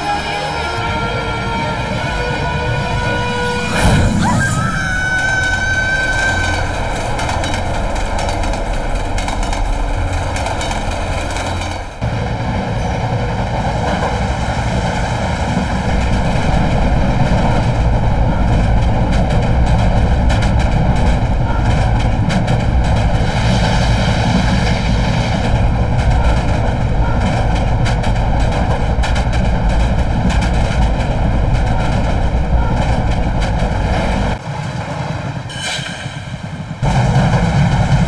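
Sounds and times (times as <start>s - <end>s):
diesel locomotive rumbling: 0.0s - 38.0s
rushing wind: 0.0s - 38.0s
train wheels clacking: 0.0s - 38.0s.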